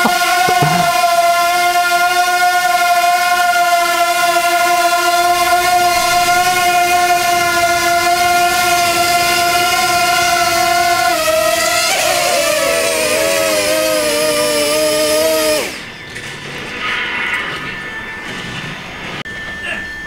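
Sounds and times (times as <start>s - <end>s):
quadcopter propellers whining: 0.0s - 16.1s.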